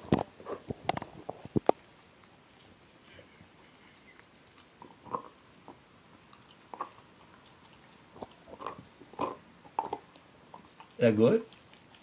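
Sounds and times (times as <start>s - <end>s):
dog gnawing on bone: 0.0s - 12.0s.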